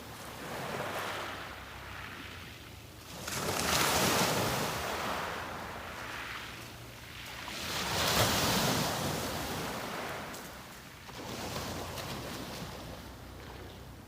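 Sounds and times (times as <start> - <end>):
sea waves breaking on beach: 0.0 - 13.6.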